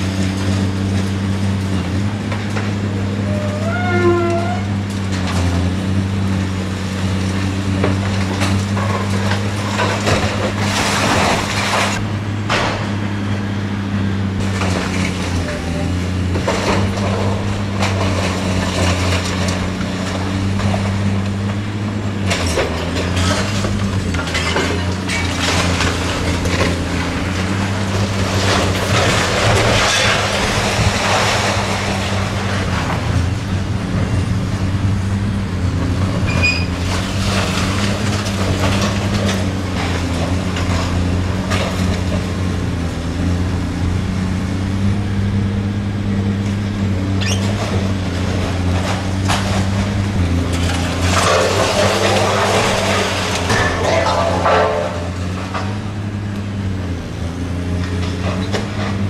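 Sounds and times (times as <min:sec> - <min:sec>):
debris clattering: 0:00.0 - 0:13.1, 0:14.4 - 0:59.0
concrete crunching: 0:00.0 - 0:13.2, 0:14.4 - 0:59.0
diesel engine running: 0:00.0 - 0:59.0.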